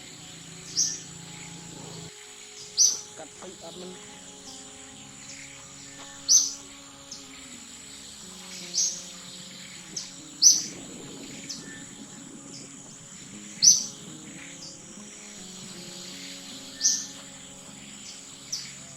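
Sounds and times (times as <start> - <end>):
steady high-pitched hum: 0.0 - 18.9.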